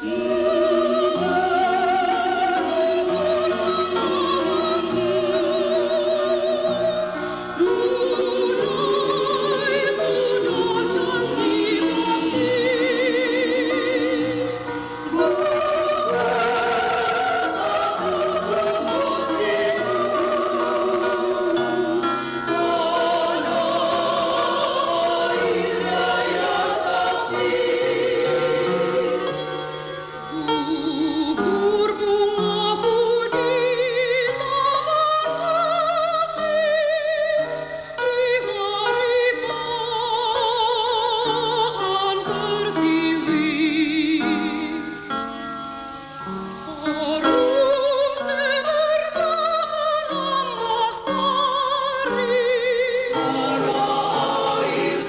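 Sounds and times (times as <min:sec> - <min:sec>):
choir singing with vibrato: 0:00.0 - 0:55.0.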